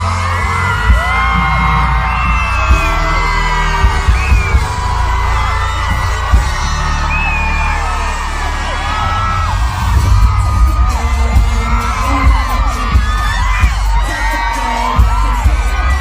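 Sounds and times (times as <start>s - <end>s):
loud amplified music: 0.0s - 16.0s.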